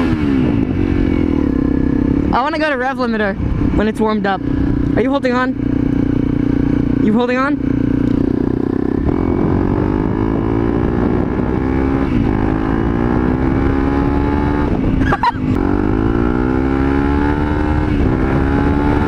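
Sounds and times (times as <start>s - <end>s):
motorcycle accelerating through gears: 0.0s - 19.0s.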